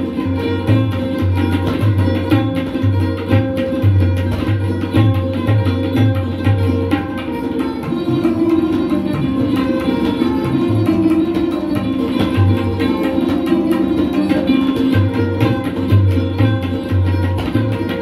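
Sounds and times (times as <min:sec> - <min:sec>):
rapid tabla strokes: 0:00.0 - 0:18.0
sarod melody: 0:00.0 - 0:18.0.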